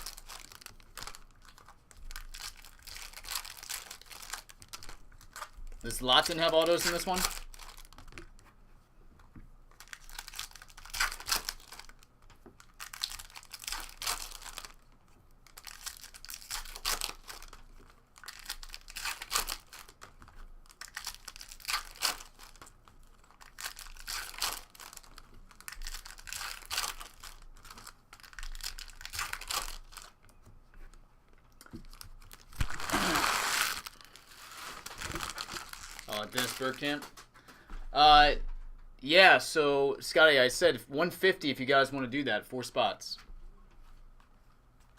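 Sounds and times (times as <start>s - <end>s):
trading cards and foil rustling: 0.0s - 8.4s, 9.8s - 38.2s.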